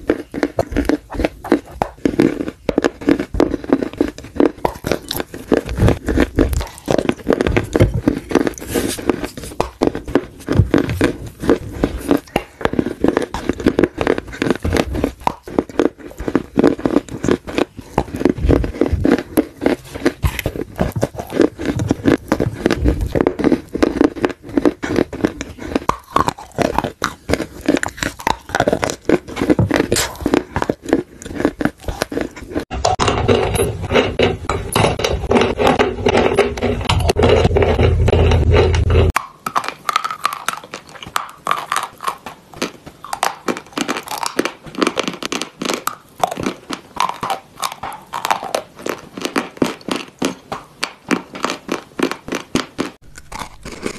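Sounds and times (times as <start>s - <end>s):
dry clay being chewed: 0.0s - 53.9s.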